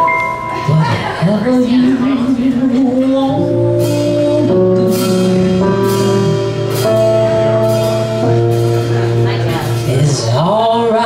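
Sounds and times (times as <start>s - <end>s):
jazz band playing: 0.0s - 11.0s.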